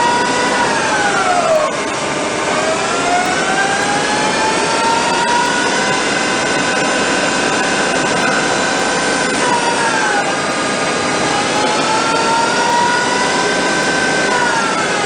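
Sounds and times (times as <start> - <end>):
lathe spindle whining: 0.0 - 15.0
rush of machining noise: 0.0 - 15.0.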